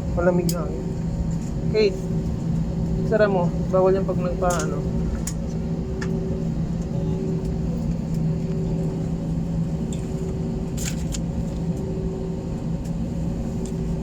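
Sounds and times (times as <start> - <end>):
airliner cabin hum: 0.0 - 14.0.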